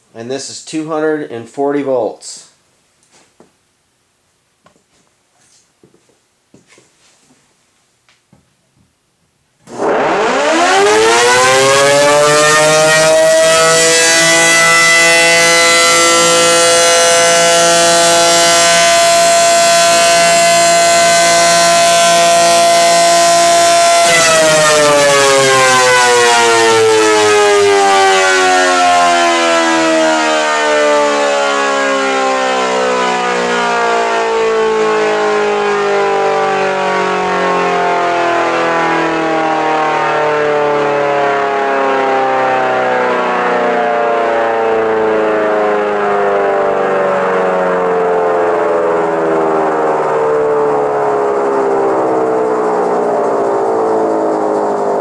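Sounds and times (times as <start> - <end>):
electric siren winding down: 9.6 - 55.0.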